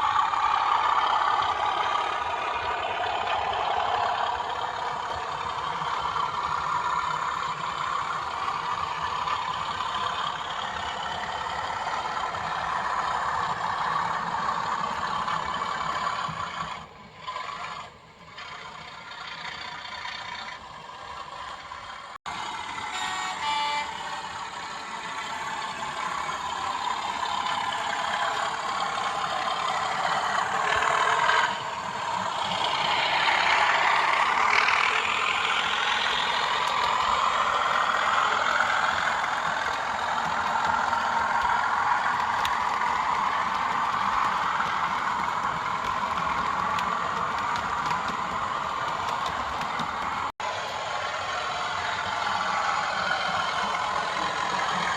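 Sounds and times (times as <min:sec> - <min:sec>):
diesel engine sound through small speaker: 0:00.0 - 0:54.9.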